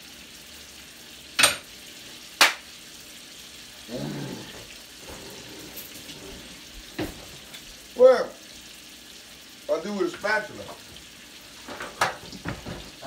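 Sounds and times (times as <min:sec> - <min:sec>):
steak sizzling in skillet: 0:00.0 - 0:13.0.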